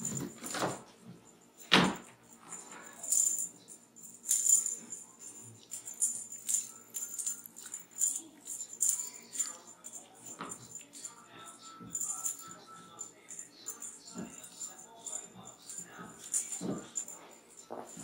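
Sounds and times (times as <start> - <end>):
cat toy bells jingling: 1.4 - 18.0.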